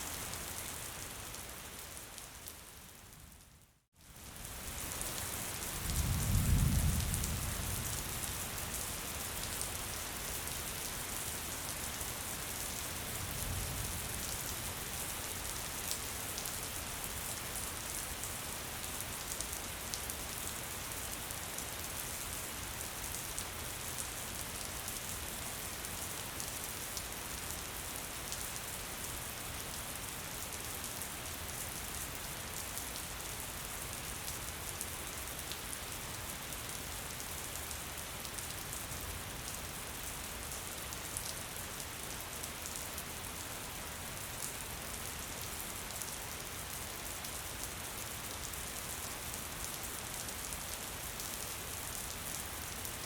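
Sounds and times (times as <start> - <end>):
gentle rain patter: 0.0 - 53.0.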